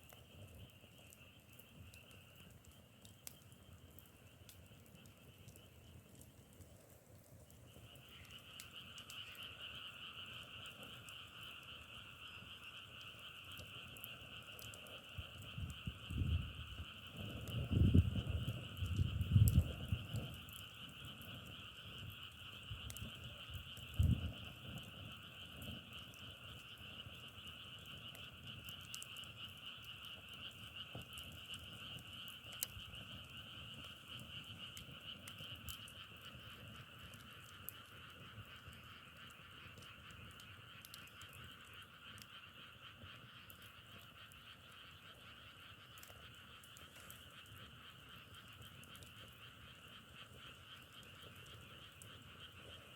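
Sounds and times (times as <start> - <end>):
chorus of frogs calling: 7.7 - 52.9.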